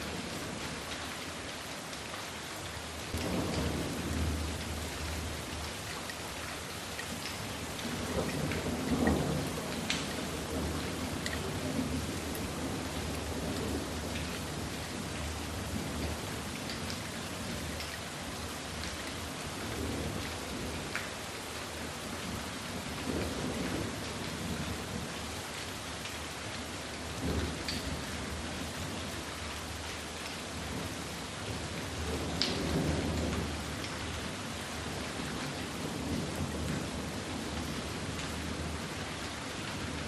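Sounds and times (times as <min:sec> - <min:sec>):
rain falling on lake: 0:00.0 - 0:40.0.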